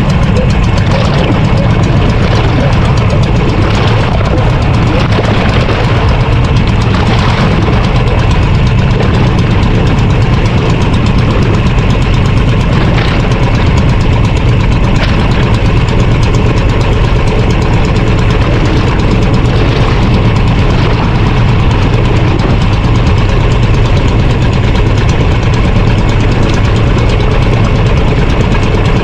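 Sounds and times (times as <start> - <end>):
boat engine rumbling: 0.0 - 29.0.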